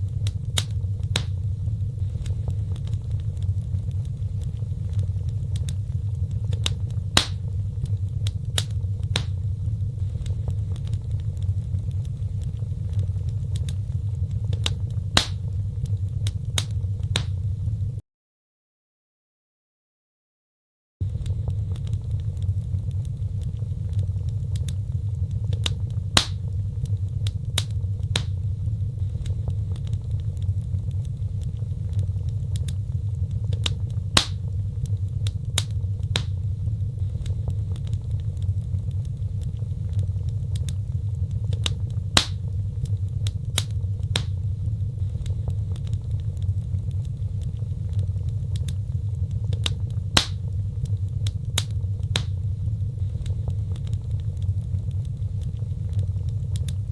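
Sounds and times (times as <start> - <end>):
wood fire crackling: 0.0 - 18.0, 21.0 - 56.9.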